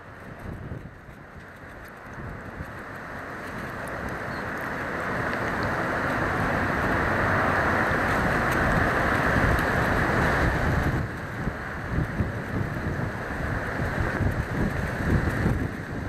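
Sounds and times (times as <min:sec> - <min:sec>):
passing vehicles: 0:00.0 - 0:16.0
wind on microphone: 0:00.0 - 0:16.0.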